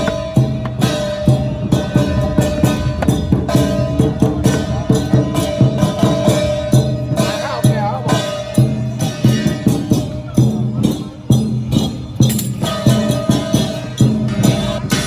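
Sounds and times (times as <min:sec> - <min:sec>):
drums and cymbals beat: 0:00.0 - 0:15.0.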